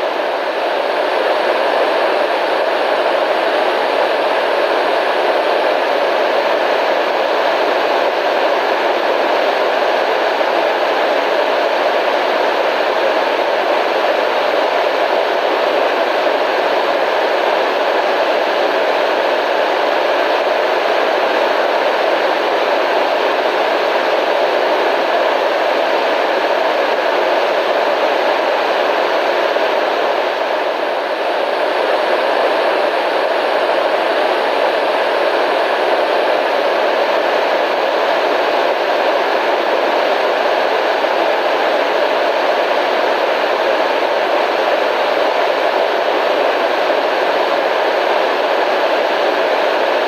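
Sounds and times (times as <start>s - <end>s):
steady static hiss: 0.0s - 50.0s.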